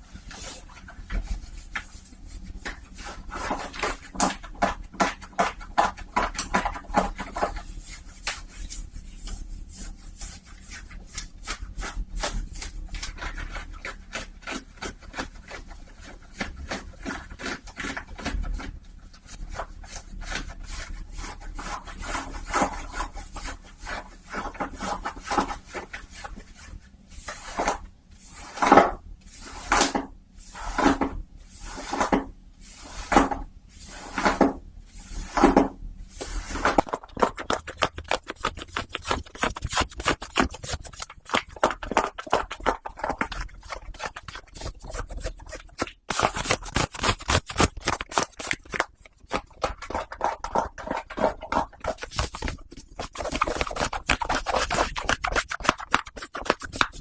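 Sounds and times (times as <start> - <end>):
socks being rubbed: 0.0 - 57.0.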